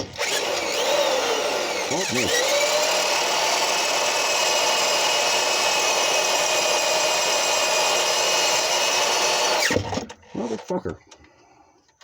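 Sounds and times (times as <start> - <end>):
power drill whining: 0.0 - 10.7.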